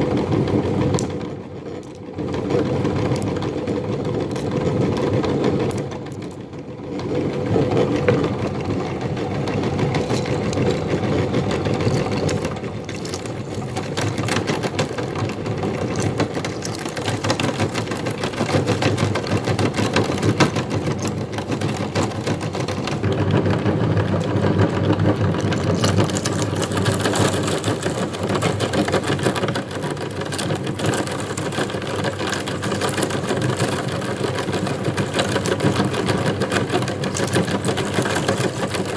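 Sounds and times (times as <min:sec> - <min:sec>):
electric meat grinder running: 0:07.0 - 0:38.9.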